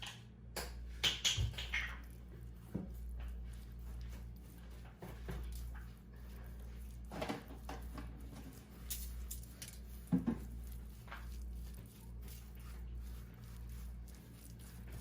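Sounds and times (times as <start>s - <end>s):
steady low hum: 1.6s - 15.0s
spoon stirring thick paste: 1.9s - 15.0s.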